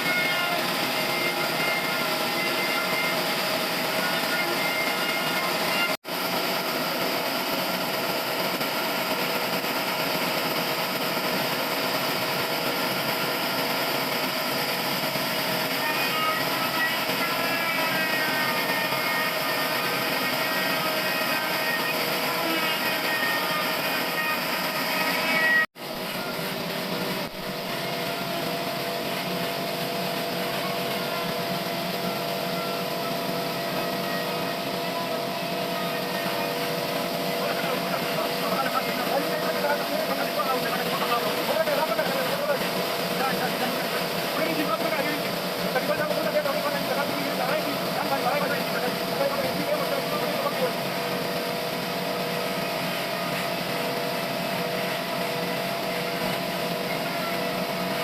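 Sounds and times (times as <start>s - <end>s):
sawmill machine running: 0.0s - 58.0s.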